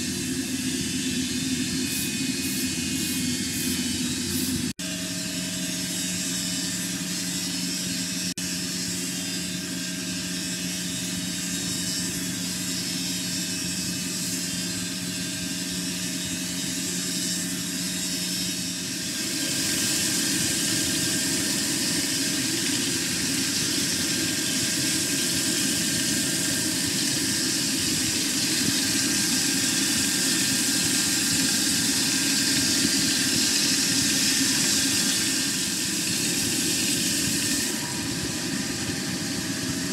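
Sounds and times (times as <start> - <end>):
grinding machine humming: 0.0 - 39.9
grinding wheel hissing: 0.0 - 39.9.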